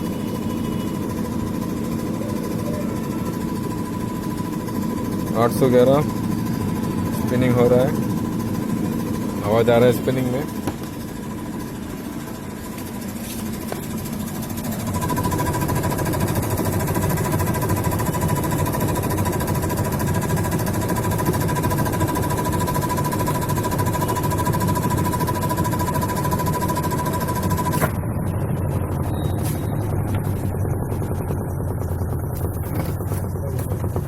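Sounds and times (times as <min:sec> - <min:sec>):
washing machine spinning: 0:00.0 - 0:34.0.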